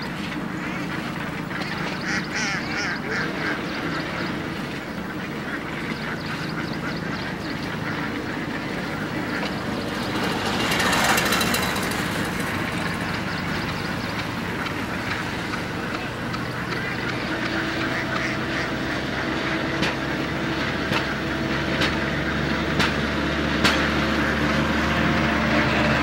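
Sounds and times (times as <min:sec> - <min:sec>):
ducks dabbling in water: 0:00.0 - 0:25.3
ducks quacking: 0:00.0 - 0:26.0
steady low hum: 0:00.0 - 0:26.0.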